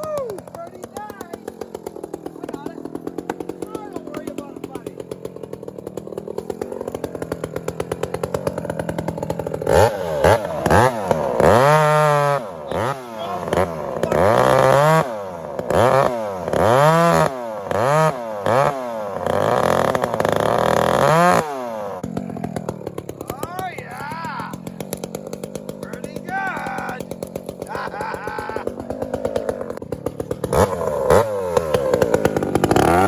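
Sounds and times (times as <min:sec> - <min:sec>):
chainsaw idling and revving: 0:00.0 - 0:33.0.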